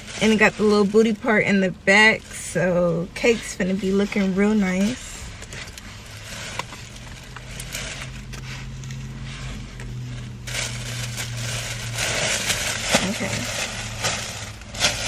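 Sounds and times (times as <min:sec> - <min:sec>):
low engine hum: 0:00.0 - 0:15.0
packaging rustling and crinkling: 0:00.0 - 0:15.0.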